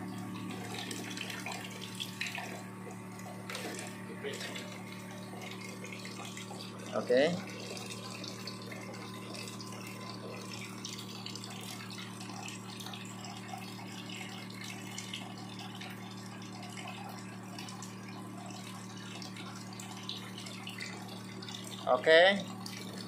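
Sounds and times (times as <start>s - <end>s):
pump humming: 0.0s - 23.0s
water trickling: 0.0s - 23.0s.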